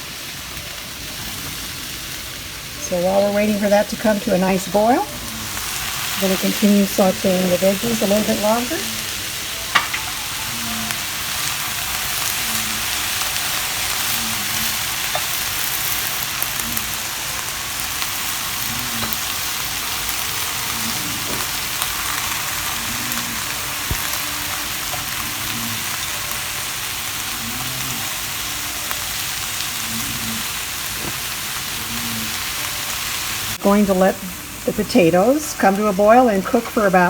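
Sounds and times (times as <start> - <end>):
vegetables sizzling in a frying pan: 0.0 - 37.0.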